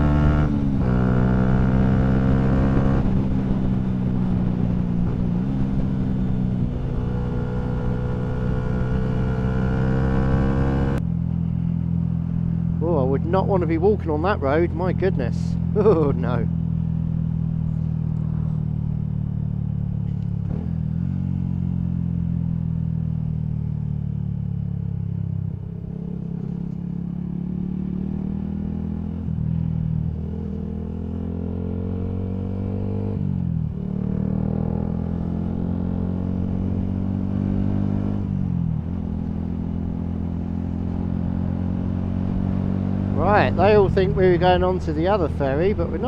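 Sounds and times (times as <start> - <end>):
motorcycle engine revving through gears: 0.0 - 12.8, 15.6 - 46.0.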